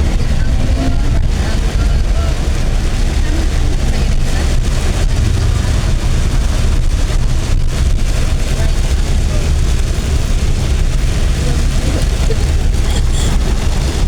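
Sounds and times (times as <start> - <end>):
car rumble from inside cabin: 0.0 - 14.0
rain hissing on car: 0.0 - 14.0.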